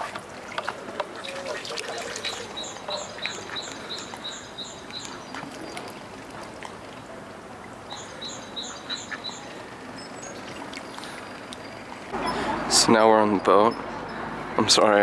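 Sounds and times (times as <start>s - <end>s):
water bird calling: 0.0s - 15.0s.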